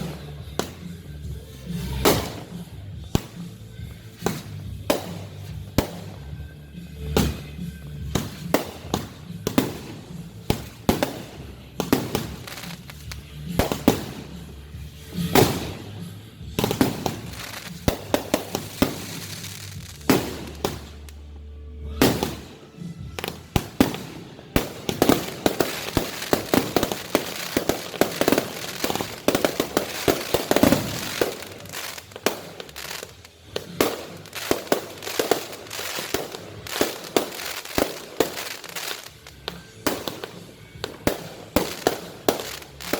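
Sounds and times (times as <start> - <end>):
fireworks banging and crackling: 0.0 - 42.9.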